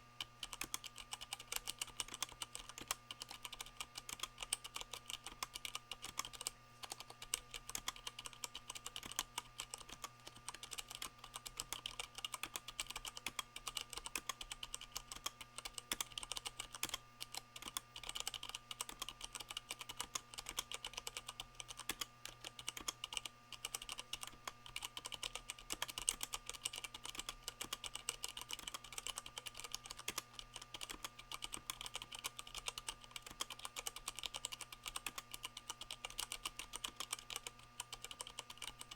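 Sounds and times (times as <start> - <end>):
faint steady hum: 0.0 - 38.9
fast typing on mechanical keyboard: 0.4 - 38.9.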